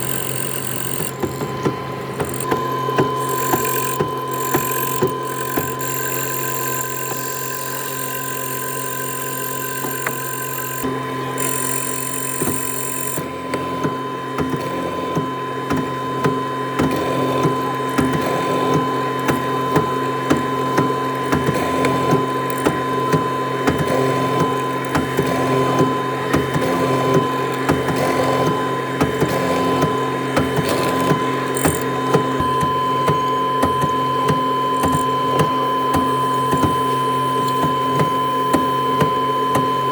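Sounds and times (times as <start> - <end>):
cutting ticks and clicks: 0.0 - 13.2, 15.7 - 39.7
woodworking machine whine: 0.0 - 39.9.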